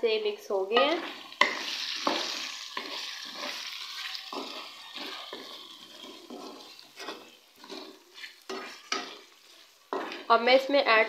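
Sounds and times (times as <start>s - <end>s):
spatula scraping pan: 0.7s - 11.0s
meat sizzling in a pan: 0.8s - 10.8s.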